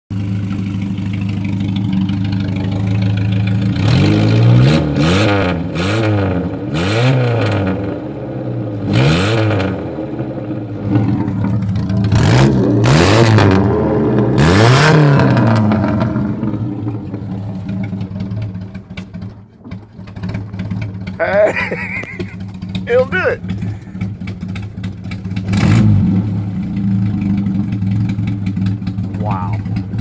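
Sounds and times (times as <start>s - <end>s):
car engine idling and revving: 0.1s - 30.0s.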